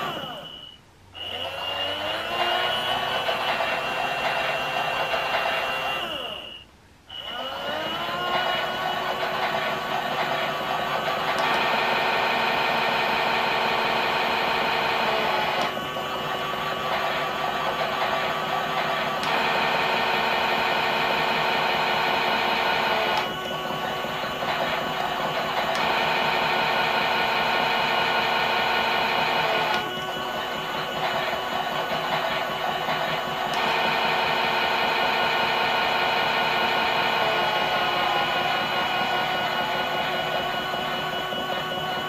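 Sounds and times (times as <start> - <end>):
toy washing machine motor whining: 0.0 - 42.0.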